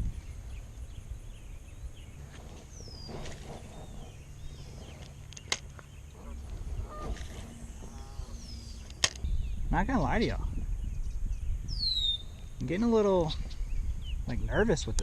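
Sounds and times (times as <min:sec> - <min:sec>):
low wind rumble: 0:00.0 - 0:15.0
small birds chirping: 0:00.0 - 0:15.0.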